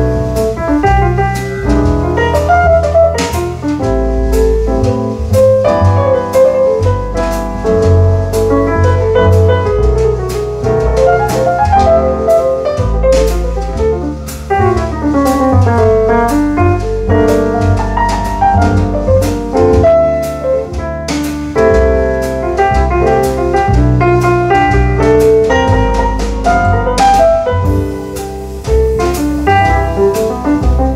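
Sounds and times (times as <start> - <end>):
bass: 0.0 - 30.9
drums: 0.0 - 30.9
jazz piano runs: 0.0 - 30.9.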